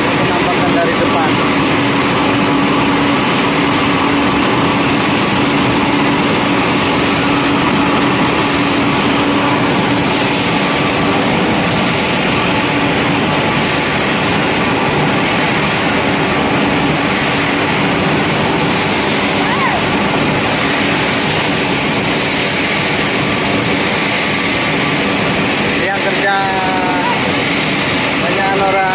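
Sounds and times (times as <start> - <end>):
industrial machinery din: 0.0 - 28.9
steady hum: 0.0 - 28.9.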